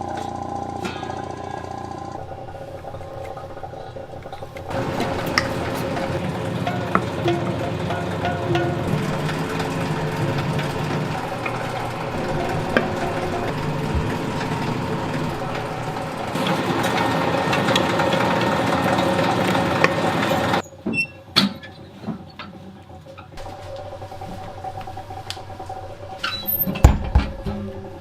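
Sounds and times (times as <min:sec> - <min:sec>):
workshop machine motor running: 0:00.0 - 0:20.7, 0:23.4 - 0:28.0.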